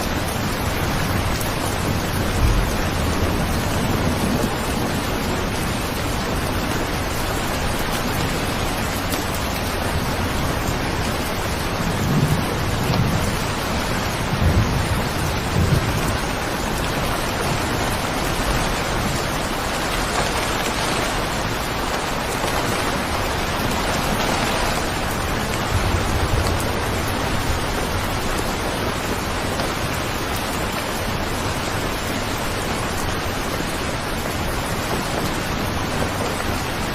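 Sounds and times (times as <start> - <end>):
heavy rain: 0.0 - 36.9
low thunder rumbles: 0.4 - 8.4, 9.8 - 31.9.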